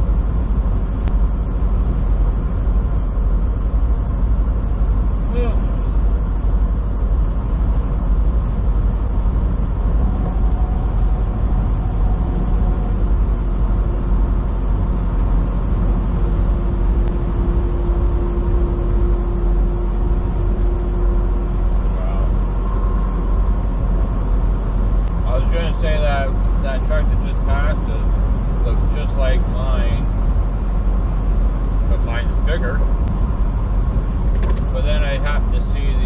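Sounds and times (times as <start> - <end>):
faint steady whine: 0.0 - 36.0
road noise: 0.0 - 36.0
truck engine drone: 0.0 - 36.0.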